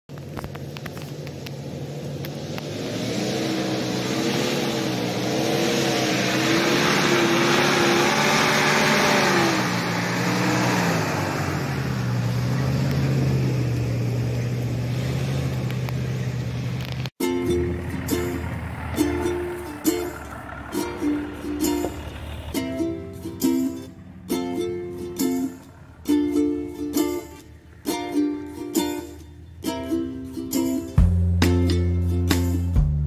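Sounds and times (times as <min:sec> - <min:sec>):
car engine pulling: 0:00.1 - 0:33.0.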